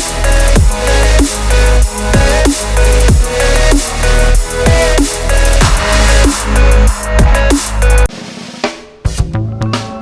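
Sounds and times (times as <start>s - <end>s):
loud electronic music: 0.0s - 8.1s
drums: 0.0s - 10.0s.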